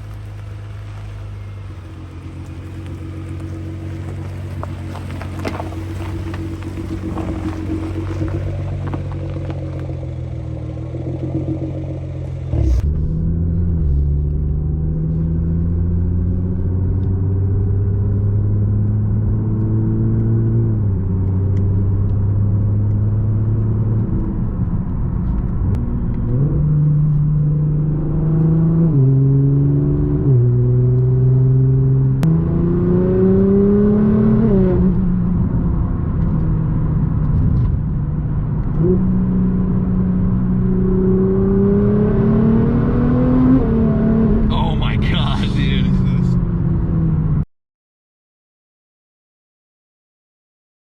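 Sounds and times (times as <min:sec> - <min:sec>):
car engine accelerating: 0:00.0 - 0:47.4.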